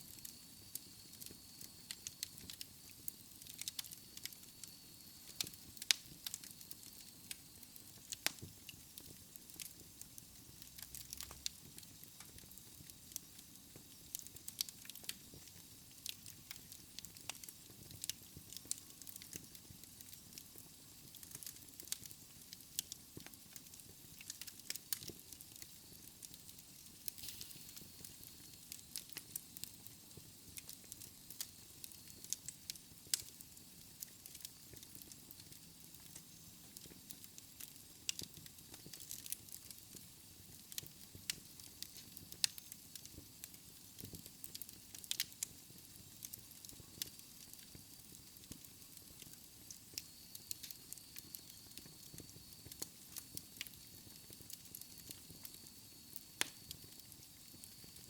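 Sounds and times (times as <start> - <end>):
soft steady hiss: 0.0 - 58.0
wood fire crackling: 0.0 - 58.0.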